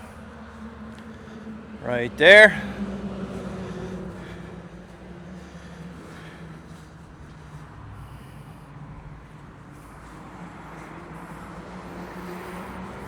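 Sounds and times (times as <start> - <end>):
distant engine hum: 0.0 - 13.0
outdoor background noise: 0.0 - 13.0.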